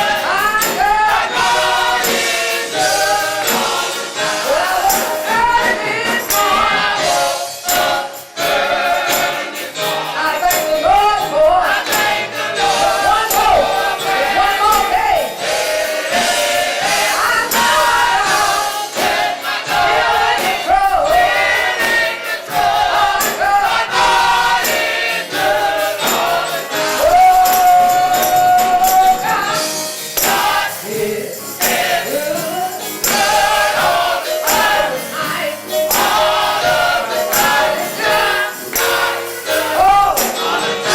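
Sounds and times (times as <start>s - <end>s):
gospel choir singing: 0.0s - 40.9s.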